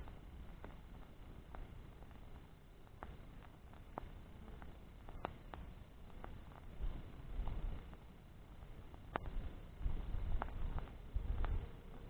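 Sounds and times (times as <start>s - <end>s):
bonfire crackling: 0.0s - 12.0s.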